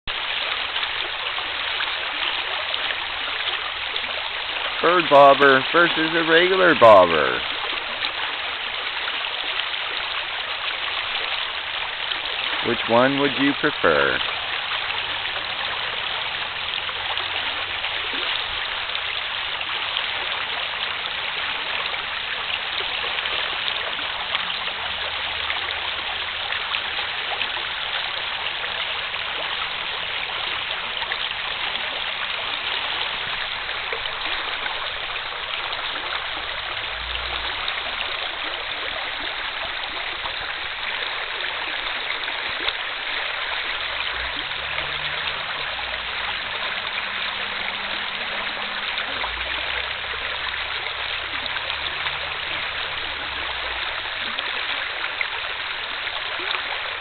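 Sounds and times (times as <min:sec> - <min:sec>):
river water rushing: 0:00.1 - 0:57.0.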